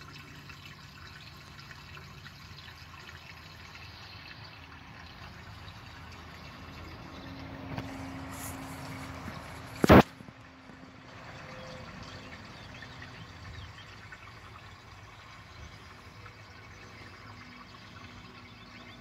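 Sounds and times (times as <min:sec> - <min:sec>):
small clicks and drips: 0:00.0 - 0:19.0.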